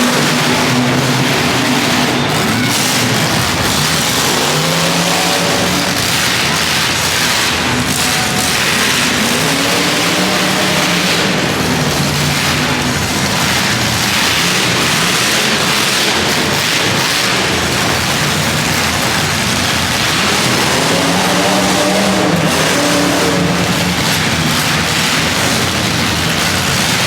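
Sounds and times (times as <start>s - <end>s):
car engines revving loudly: 0.0s - 27.0s.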